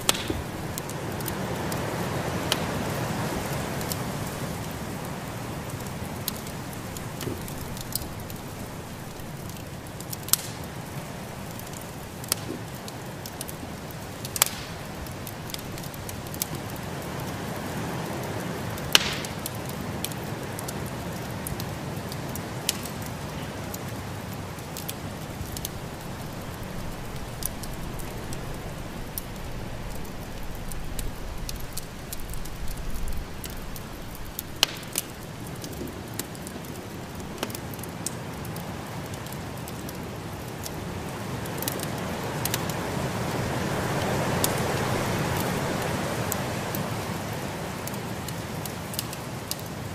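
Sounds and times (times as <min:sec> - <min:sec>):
fire popping: 0:00.0 - 0:49.9
wood fire crackling: 0:00.0 - 0:49.9.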